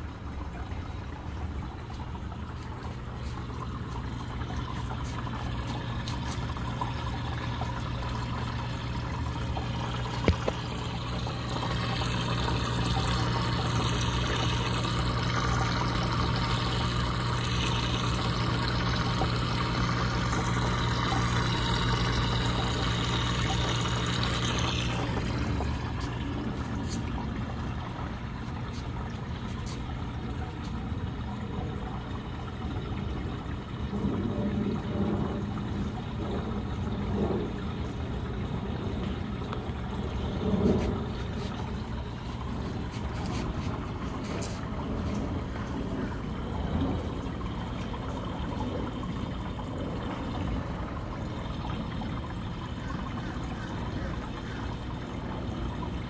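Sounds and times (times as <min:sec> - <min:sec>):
water pump hum: 0:00.0 - 0:56.0
water swirling and splashing: 0:00.0 - 0:56.0.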